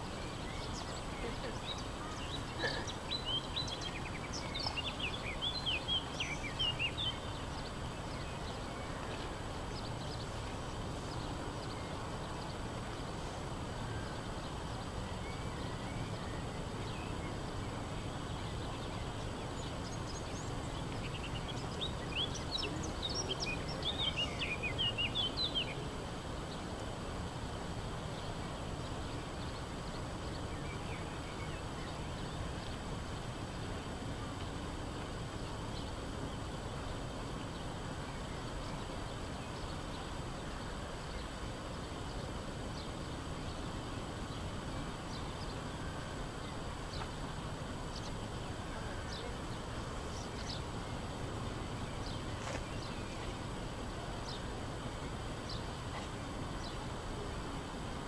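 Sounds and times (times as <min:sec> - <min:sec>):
town background noise: 0:00.0 - 0:58.0.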